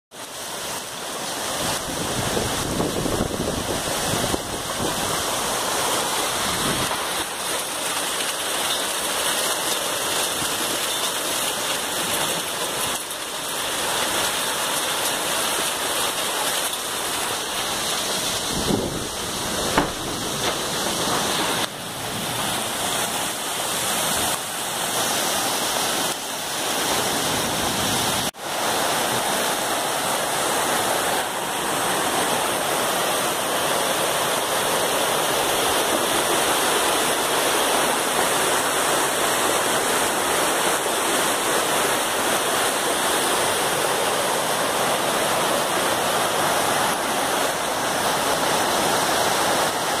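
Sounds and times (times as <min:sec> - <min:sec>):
floodwater rushing: 0:00.1 - 0:50.0
heavy rain: 0:00.1 - 0:50.0.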